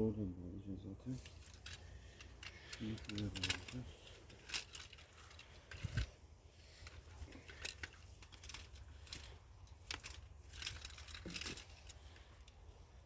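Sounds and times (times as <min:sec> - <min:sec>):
low steady hum: 0:00.0 - 0:13.0
clicks and rustles of hands on cables: 0:01.1 - 0:13.0.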